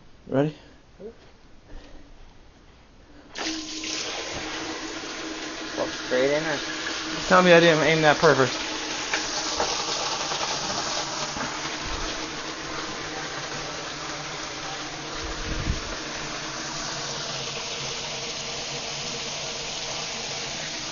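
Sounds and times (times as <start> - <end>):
pressurised water gushing: 3.4 - 20.9.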